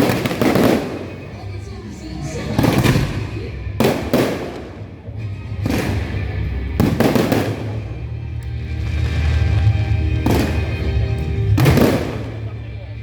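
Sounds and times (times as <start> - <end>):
fireworks bangs: 0.0 - 1.3, 2.5 - 12.6
music: 0.0 - 13.0.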